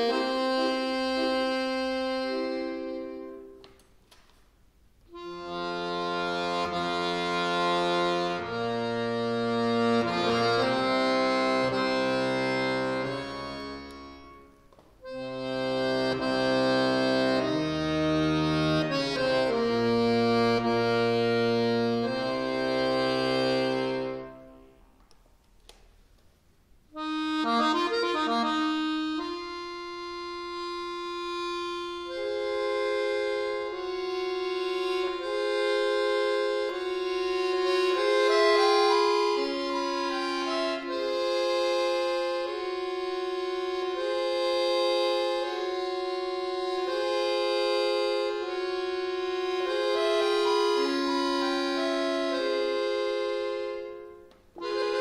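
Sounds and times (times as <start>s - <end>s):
accordion playing chords: 0.0s - 26.0s, 26.6s - 55.0s.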